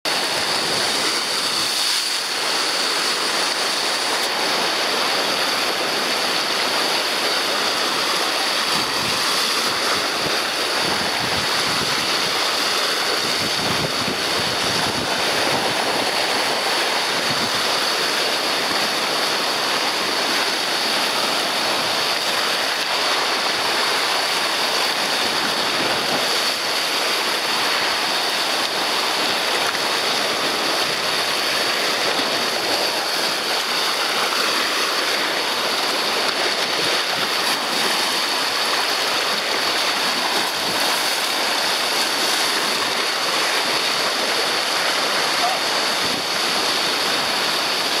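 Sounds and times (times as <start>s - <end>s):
rough sea waves and surf: 0.0s - 48.0s.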